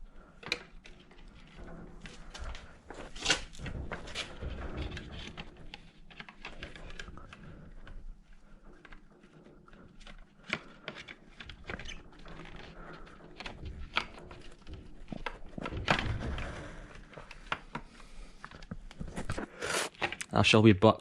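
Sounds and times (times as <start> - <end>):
plastic scrape: 0.2 - 20.2.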